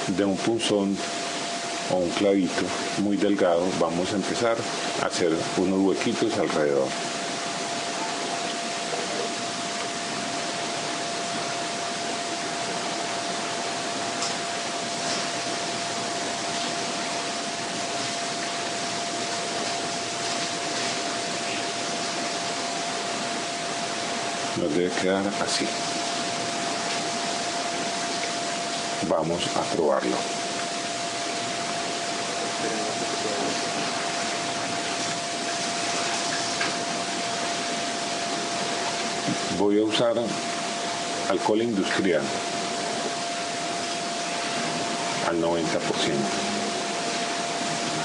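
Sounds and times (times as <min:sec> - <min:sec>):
steady hiss: 0:00.0 - 0:48.0
steady whine: 0:00.0 - 0:48.0.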